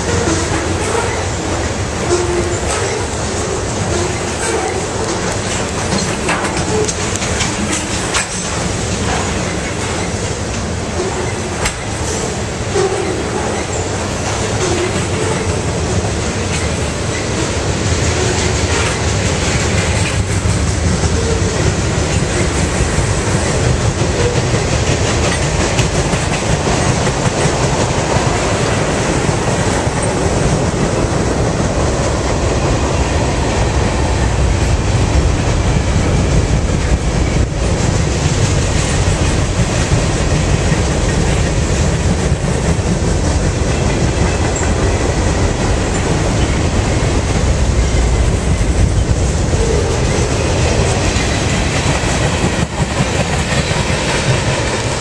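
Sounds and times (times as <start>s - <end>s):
freight train rumbling past: 0.0s - 55.0s
wheels clattering on rails: 0.0s - 55.0s.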